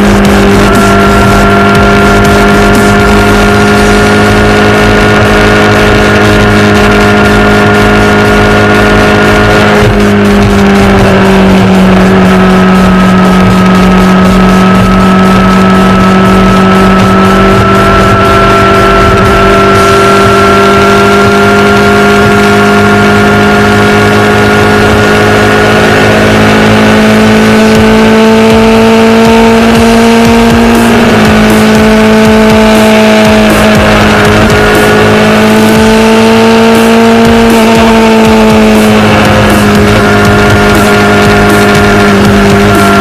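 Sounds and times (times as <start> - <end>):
motorcycle engine cruising: 0.0 - 43.0
wind and road noise: 0.0 - 43.0.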